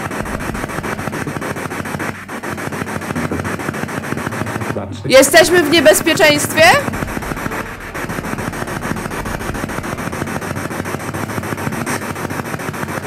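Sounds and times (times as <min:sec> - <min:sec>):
radio static chopping: 0:00.0 - 0:13.0.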